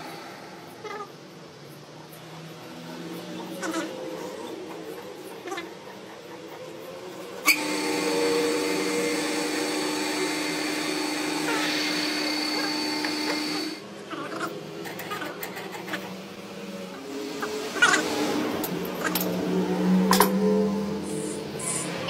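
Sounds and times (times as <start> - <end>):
machine hum with tones: 0.0 - 22.0.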